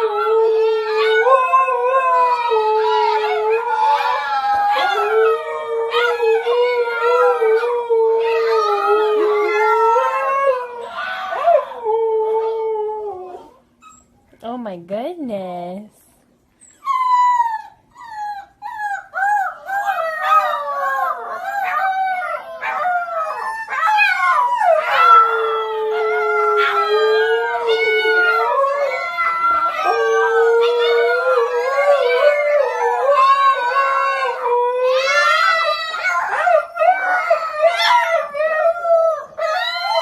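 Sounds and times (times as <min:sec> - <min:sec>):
dogs howling: 0:00.0 - 0:13.6, 0:16.7 - 0:40.0
dogs yelping and whining: 0:00.0 - 0:14.3, 0:16.6 - 0:40.0.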